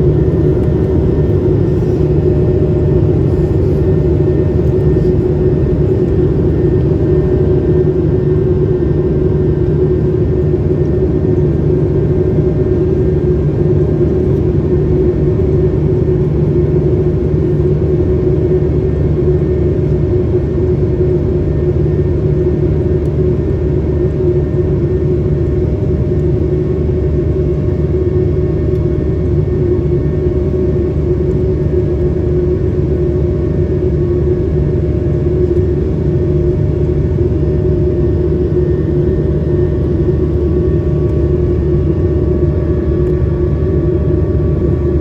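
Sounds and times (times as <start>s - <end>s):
airliner cabin engine drone: 0.0s - 45.0s.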